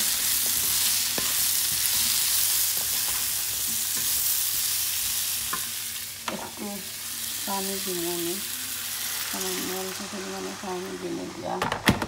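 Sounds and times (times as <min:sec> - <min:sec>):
vegetables sizzling in hot oil: 0:00.0 - 0:11.8.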